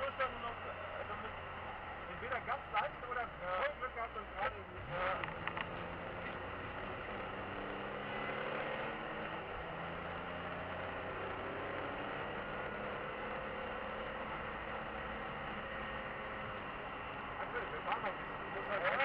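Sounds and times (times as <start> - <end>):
car engine running under load: 0.0 - 19.0
tyre and road noise: 0.0 - 19.0.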